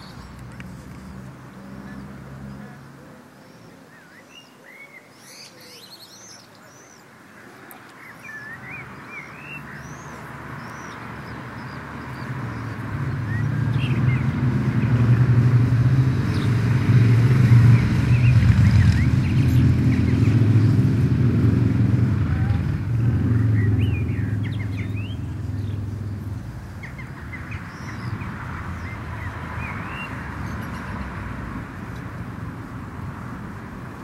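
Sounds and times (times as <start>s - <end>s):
small birds chirping: 0.0s - 32.8s.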